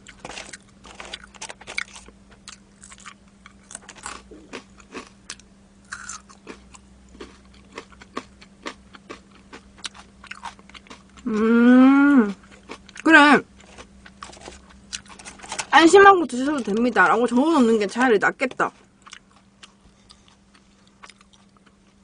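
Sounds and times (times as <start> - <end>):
person chewing crunchy food: 0.0 - 11.5, 12.2 - 15.6, 18.8 - 22.0
faint steady hum: 0.0 - 22.0.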